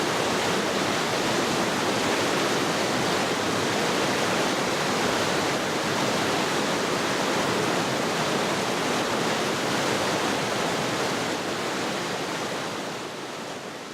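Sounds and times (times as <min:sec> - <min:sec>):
stream rushing over rapids: 0:00.0 - 0:13.9.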